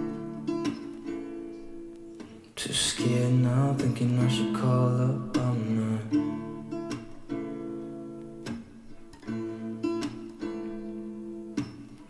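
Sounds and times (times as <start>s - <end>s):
strummed acoustic guitar chords: 0.0s - 12.0s.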